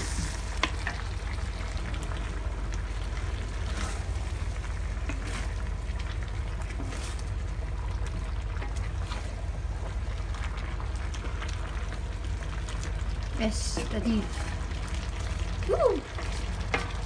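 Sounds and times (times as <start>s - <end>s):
food sizzling in a pan: 0.0s - 7.8s, 10.5s - 17.0s
steady low rumble: 0.0s - 17.0s.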